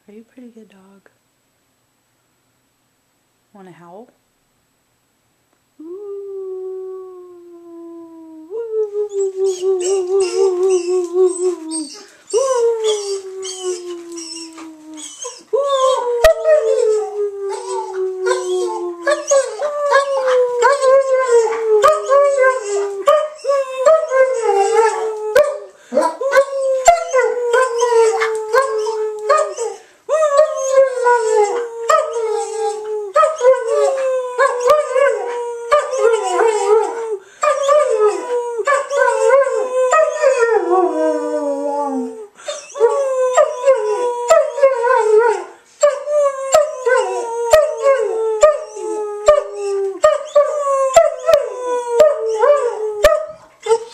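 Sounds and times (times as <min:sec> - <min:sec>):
dog howling: 0:06.6 - 0:53.8.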